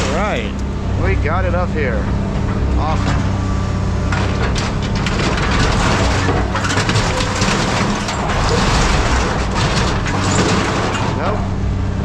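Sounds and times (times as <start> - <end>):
machine engine hum: 0.0 - 12.0
scrap metal crunching: 1.8 - 12.0.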